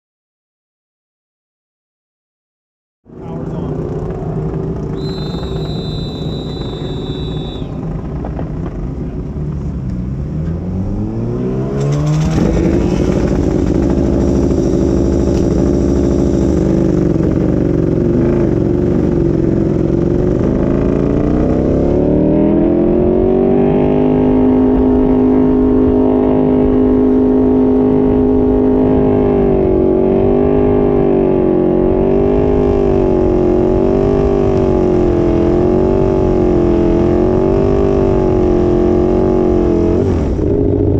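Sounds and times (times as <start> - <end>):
motorcycle engine revving: 3.1 - 40.9.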